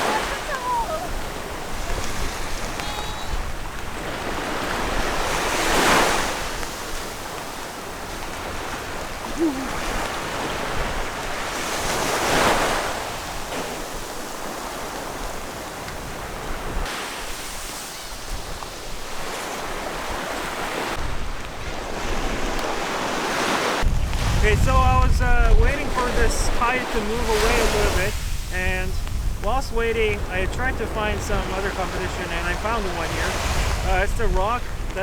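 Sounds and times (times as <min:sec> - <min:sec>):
sea waves breaking on shore: 0:00.0 - 0:35.0
wind buffeting microphone: 0:00.0 - 0:35.0.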